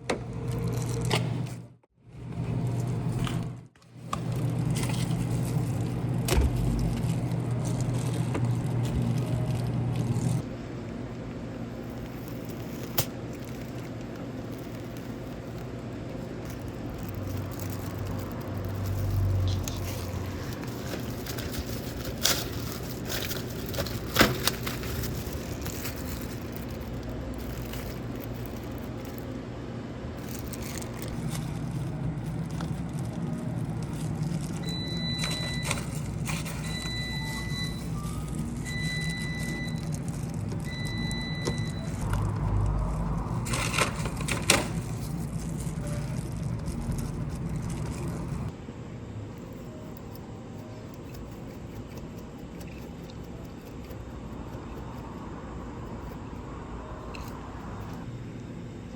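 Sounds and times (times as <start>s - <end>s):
kitchen equipment humming: 0.0s - 48.8s.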